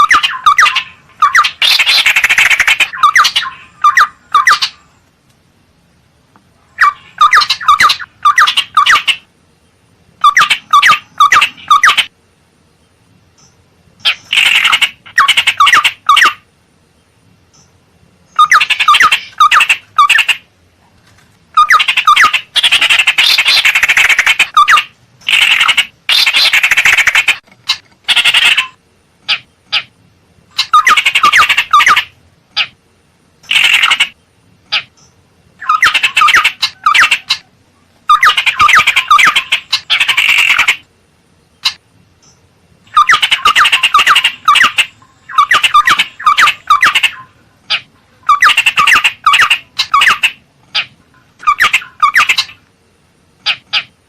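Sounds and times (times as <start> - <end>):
bird chattering and whistling: 0.0 - 4.9, 6.7 - 9.3, 10.2 - 12.1, 13.4 - 16.5, 18.3 - 20.5, 21.6 - 29.9, 30.5 - 32.8, 33.4 - 40.9, 41.6 - 52.6, 53.4 - 54.0.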